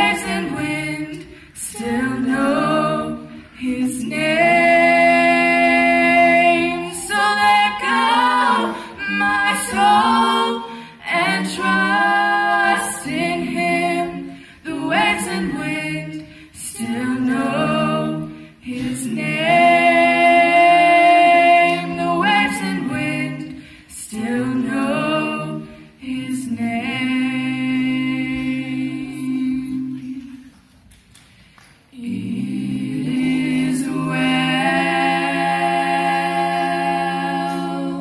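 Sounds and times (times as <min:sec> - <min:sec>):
vocal quartet singing in harmony: 0:00.0 - 0:30.8, 0:31.9 - 0:38.0.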